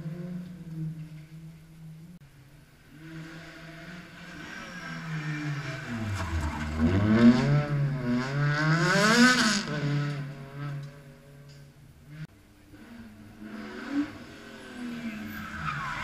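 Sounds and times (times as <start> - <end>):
car engine revving: 2.8 - 16.0.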